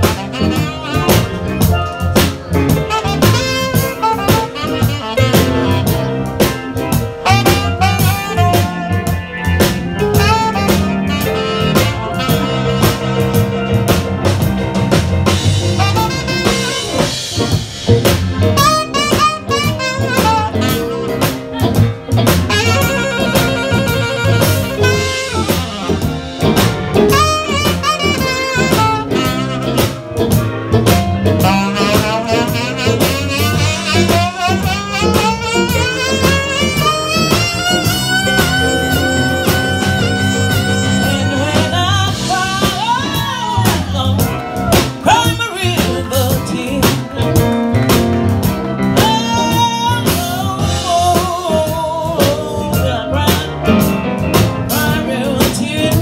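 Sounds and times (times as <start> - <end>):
saxophone solo: 0.0 - 45.5
drum kit: 0.0 - 56.0
low backing band: 0.0 - 56.0.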